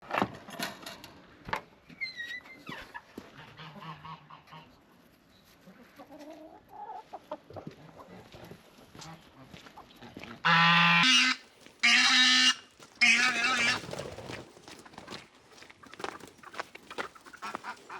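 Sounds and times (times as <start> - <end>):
chickens clucking: 2.5 - 17.9.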